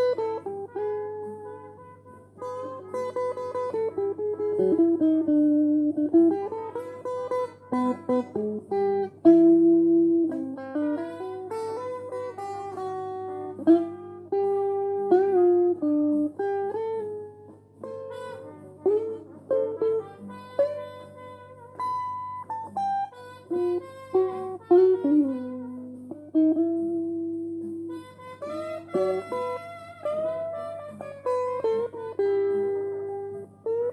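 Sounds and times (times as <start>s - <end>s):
electric guitar melody: 0.0s - 33.9s.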